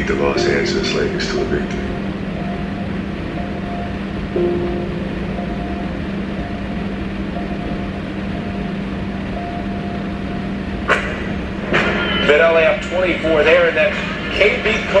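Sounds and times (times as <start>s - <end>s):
low drone: 0.0s - 15.0s.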